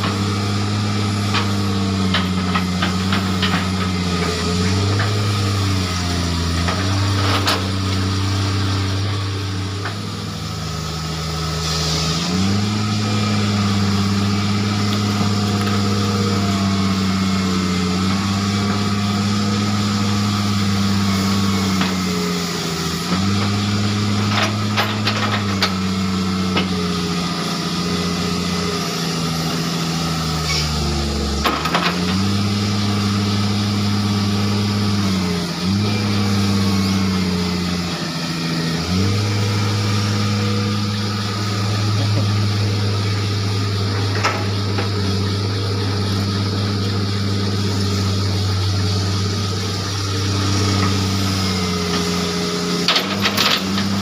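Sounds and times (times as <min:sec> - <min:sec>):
excavator diesel engine labouring: 0:00.0 - 0:54.0.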